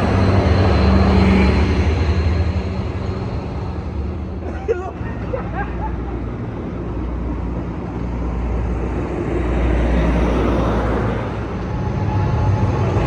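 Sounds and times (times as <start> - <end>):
diesel train rumbling: 0.0 - 13.0.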